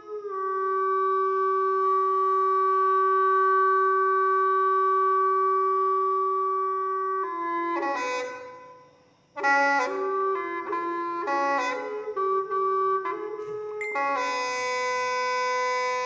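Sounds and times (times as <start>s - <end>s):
wind-instrument melody: 0.0s - 16.0s.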